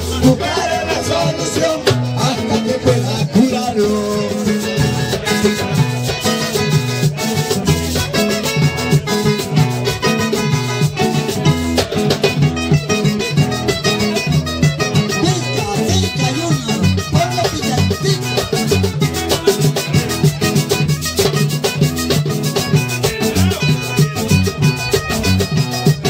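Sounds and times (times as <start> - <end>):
acoustic guitars: 0.0 - 26.0
bass line: 0.0 - 26.0
percussion beat: 0.0 - 26.0.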